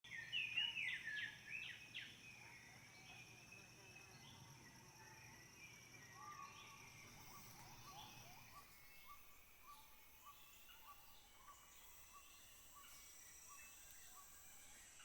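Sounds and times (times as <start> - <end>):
high insect drone: 0.1 - 15.0.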